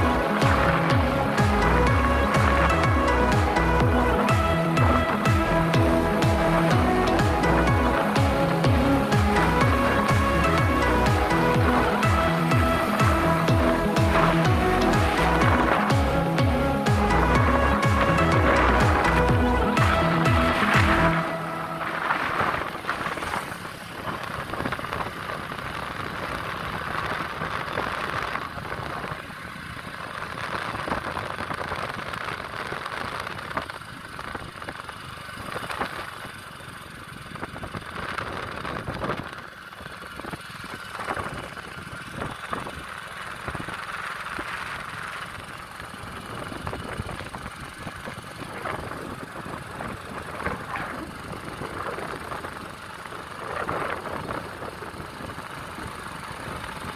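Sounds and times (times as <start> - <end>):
road noise: 0.0 - 56.9
vehicle engine running: 0.0 - 56.9.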